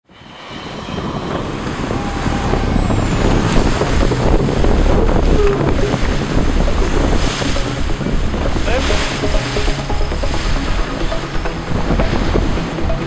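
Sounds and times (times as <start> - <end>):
wind buffeting microphone: 0.1 - 13.0
water rushing past boat hull: 0.2 - 13.0.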